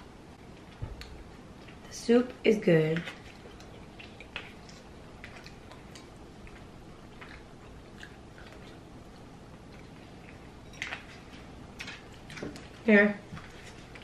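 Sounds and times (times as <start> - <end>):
quiet chewing: 0.4 - 1.9, 2.8 - 14.0.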